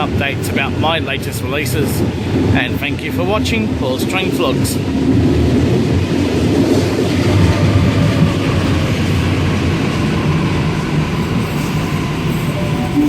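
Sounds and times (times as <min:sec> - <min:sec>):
train running on rails: 0:00.0 - 0:13.0.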